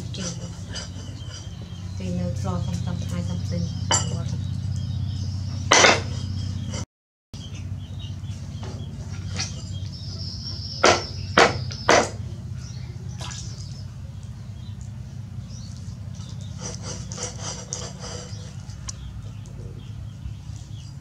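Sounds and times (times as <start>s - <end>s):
steady low hum: 0.0s - 6.8s, 7.4s - 21.0s.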